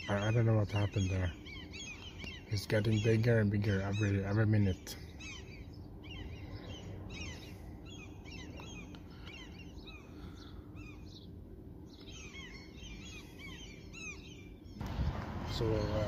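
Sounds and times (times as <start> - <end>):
low background rumble: 0.0 - 16.0
small birds chirping: 0.0 - 16.0.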